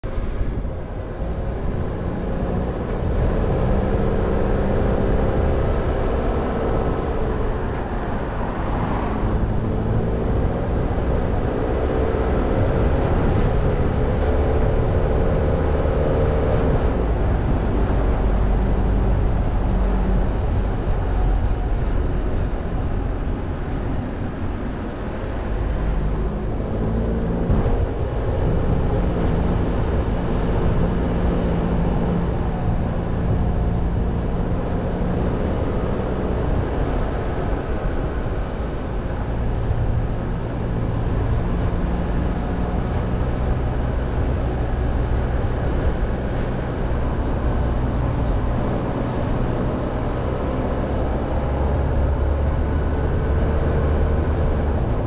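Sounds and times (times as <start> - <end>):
car engine: 0.0 - 55.0
road and tyre rumble: 0.0 - 55.0.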